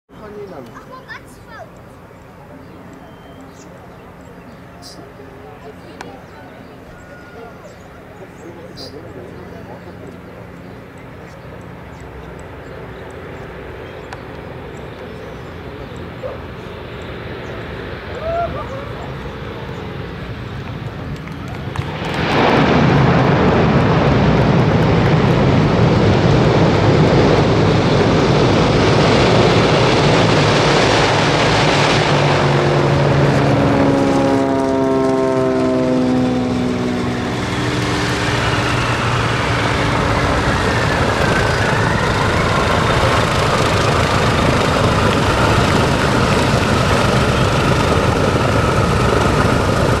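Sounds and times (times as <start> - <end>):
propeller airplane engines landing: 0.1 - 50.0.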